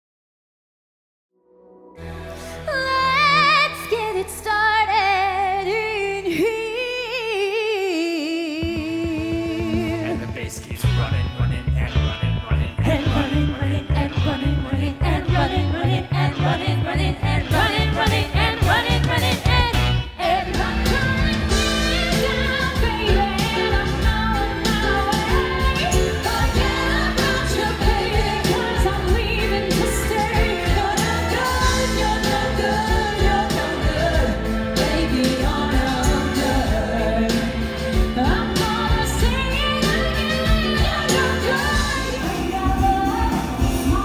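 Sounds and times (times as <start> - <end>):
woman singing: 2.5 - 10.2, 12.9 - 44.0
full band backing music: 7.2 - 44.0.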